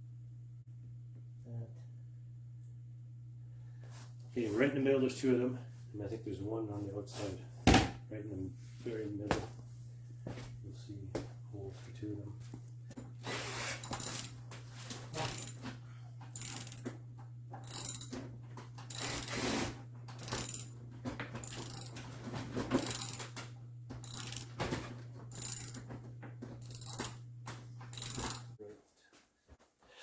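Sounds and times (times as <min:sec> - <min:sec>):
steady low hum: 0:00.0 - 0:28.6.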